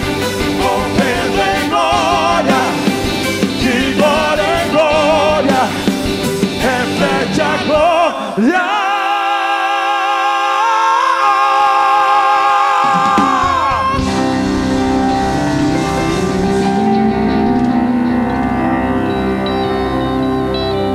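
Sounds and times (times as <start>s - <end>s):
gospel band playing: 0.0s - 9.4s, 11.8s - 20.9s.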